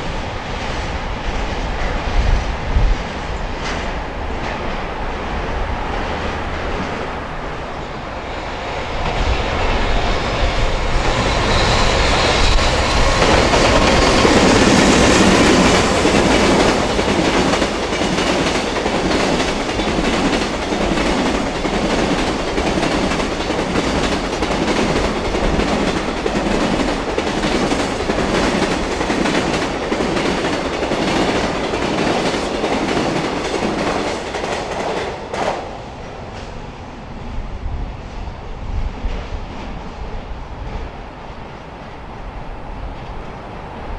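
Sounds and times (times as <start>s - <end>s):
freight train passing: 0.0s - 43.9s.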